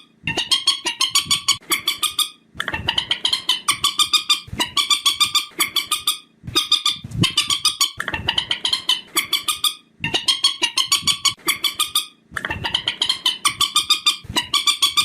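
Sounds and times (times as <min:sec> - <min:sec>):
bird calling rapid sharp notes: 0:00.0 - 0:15.0.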